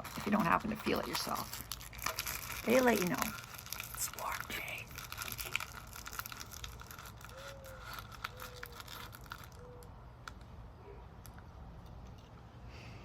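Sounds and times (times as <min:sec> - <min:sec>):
wrapper crinkling and tearing: 0:00.0 - 0:10.4.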